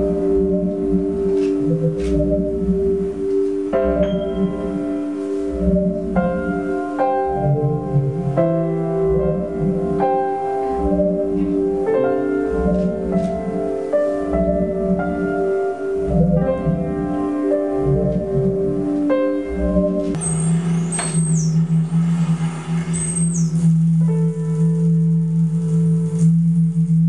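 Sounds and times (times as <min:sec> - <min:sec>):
low rumble: 0:00.0 - 0:27.0
upright piano played slowly: 0:00.0 - 0:27.0.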